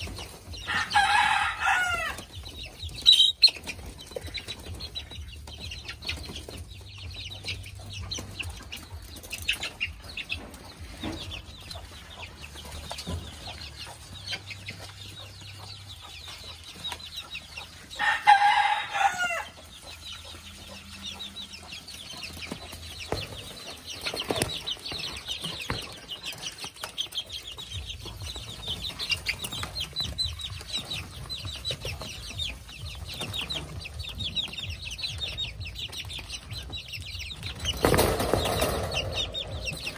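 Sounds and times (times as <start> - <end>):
chicks peeping and clucking: 0.0 - 39.9.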